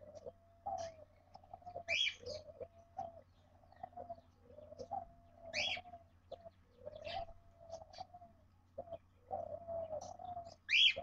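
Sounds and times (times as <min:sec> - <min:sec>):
low curved bird calls: 0:00.0 - 0:11.0.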